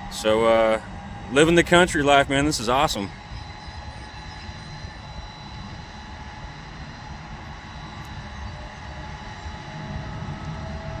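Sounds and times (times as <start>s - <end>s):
farm machinery engine drone: 0.0s - 11.0s.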